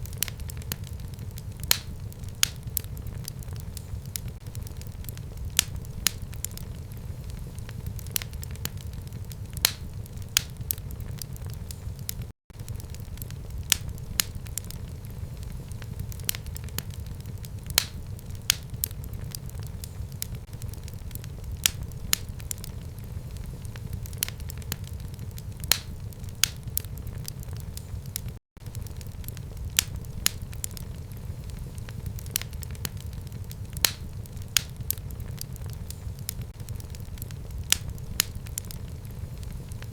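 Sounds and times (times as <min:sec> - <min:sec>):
burning logs crackling and popping: 0:00.0 - 0:39.9
fire flames rumbling: 0:00.0 - 0:39.9.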